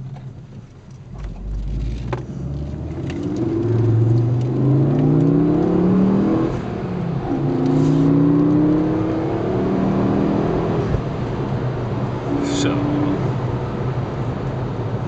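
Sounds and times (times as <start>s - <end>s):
car engine accelerating: 1.0s - 15.0s.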